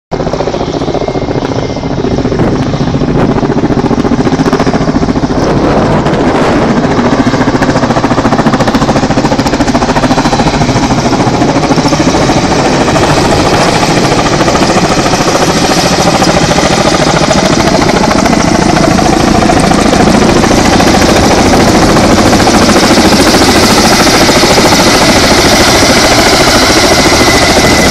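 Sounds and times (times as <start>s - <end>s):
helicopter rotors beating: 0.1s - 27.9s.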